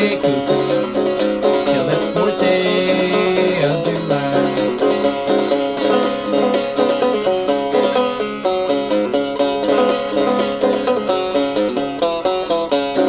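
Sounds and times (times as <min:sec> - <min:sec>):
banjo picking: 0:00.0 - 0:13.0.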